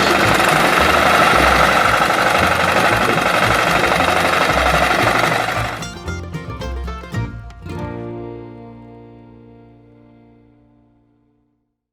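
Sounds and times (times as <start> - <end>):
low rhythmic bass pulse: 0.0 - 11.4.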